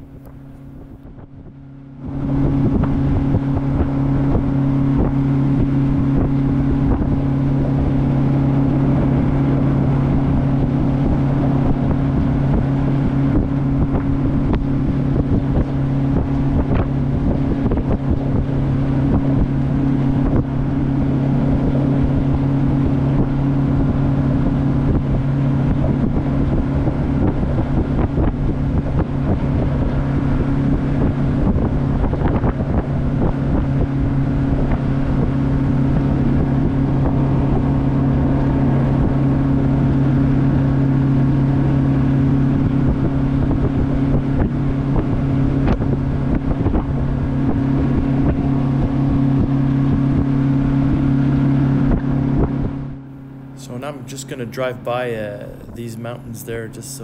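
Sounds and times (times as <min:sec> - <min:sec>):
boat engine running: 0:00.0 - 0:57.0
wind buffeting microphone: 0:00.0 - 0:57.0.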